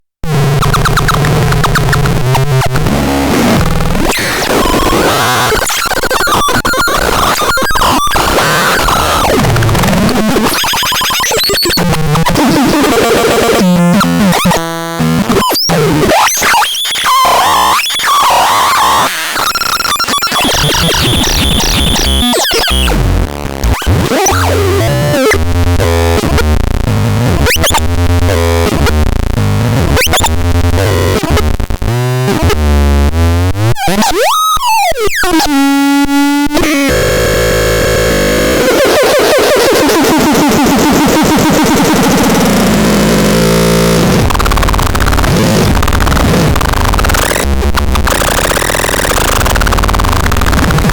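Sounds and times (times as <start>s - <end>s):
harsh glitchy synthesizer noise: 0.2s - 50.9s.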